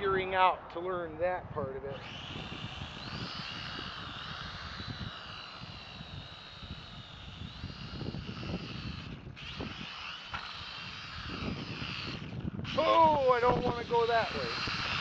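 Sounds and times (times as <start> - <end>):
wind rumble on microphone: 0.0 - 15.0
quadcopter propellers whining: 1.7 - 15.0.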